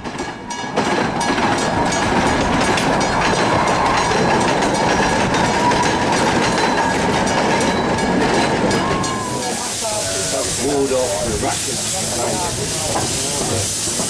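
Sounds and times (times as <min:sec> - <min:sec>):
train wheels clattering on track: 0:00.0 - 0:14.0.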